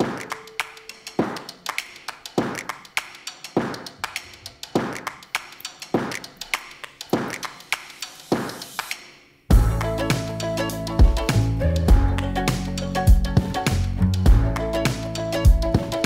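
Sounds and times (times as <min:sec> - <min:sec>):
light percussive beat: 0:00.0 - 0:16.0.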